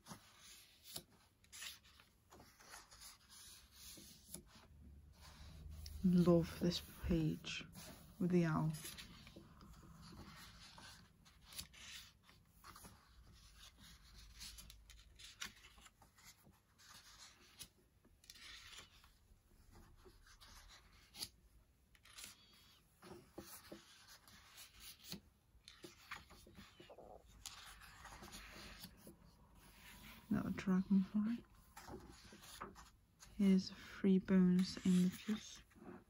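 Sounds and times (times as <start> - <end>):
pages sliding: 0.0 - 4.6, 5.2 - 19.2, 21.9 - 30.2, 31.7 - 33.3, 34.6 - 35.8
paper pages rustling: 0.0 - 36.0.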